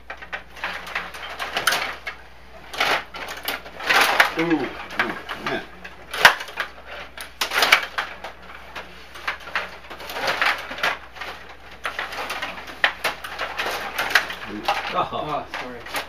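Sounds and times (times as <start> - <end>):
table hockey players clicking: 0.0 - 16.0.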